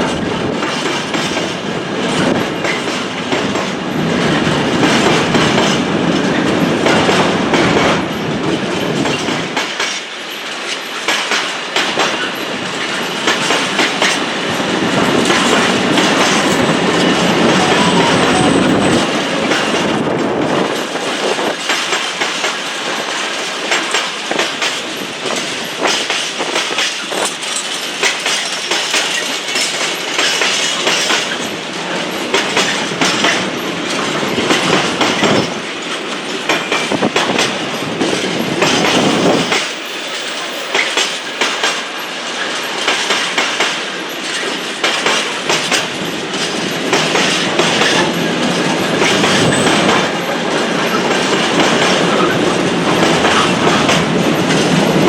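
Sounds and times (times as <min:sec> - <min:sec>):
train wheels clattering over rail joints: 0:00.0 - 0:17.4, 0:18.9 - 0:55.0.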